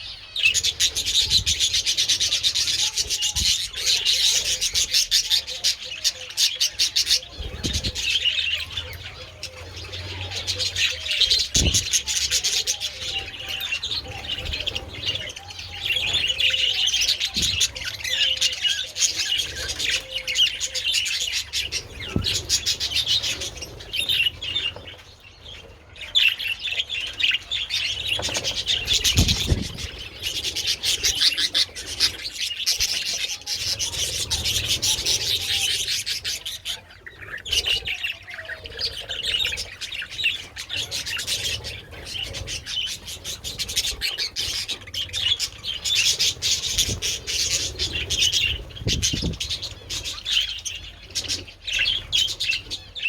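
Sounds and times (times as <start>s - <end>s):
budgerigars chattering: 0.0s - 25.0s, 26.0s - 53.0s.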